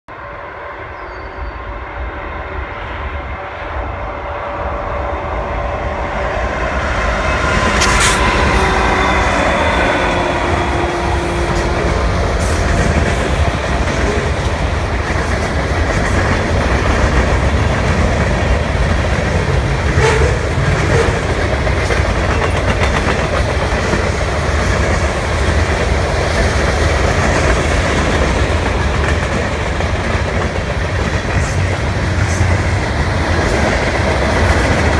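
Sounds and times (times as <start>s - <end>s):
railcars rumbling and clacking: 0.1s - 34.9s
locomotive engine passing: 3.0s - 34.9s.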